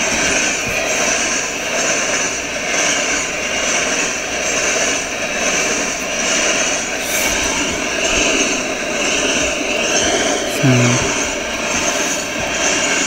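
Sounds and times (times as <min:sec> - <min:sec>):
freight train wheels rolling: 0:00.0 - 0:13.0.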